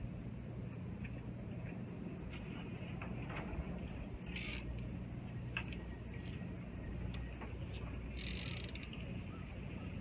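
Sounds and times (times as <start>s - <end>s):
distant jet airliner rumble: 0.0s - 10.0s.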